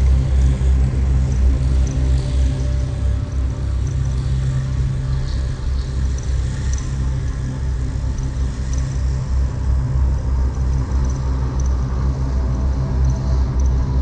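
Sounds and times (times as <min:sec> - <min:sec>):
deep pulsing hum: 0:00.0 - 0:14.0.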